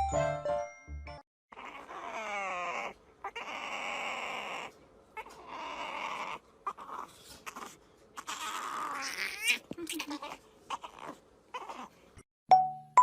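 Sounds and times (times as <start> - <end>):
dog whining: 1.5 - 12.0.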